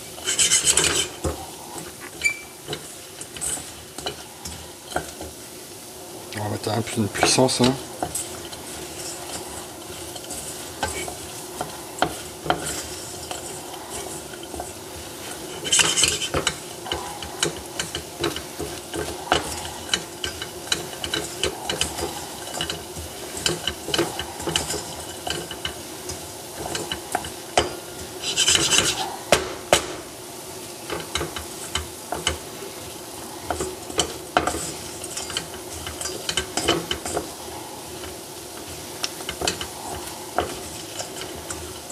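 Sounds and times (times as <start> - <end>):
wooden spatula scraping saucepan: 0.0 - 5.7, 6.6 - 29.4, 30.6 - 41.9.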